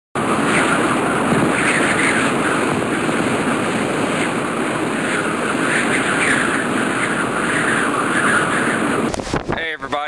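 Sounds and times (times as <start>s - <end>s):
storm wind roaring: 0.2s - 9.8s.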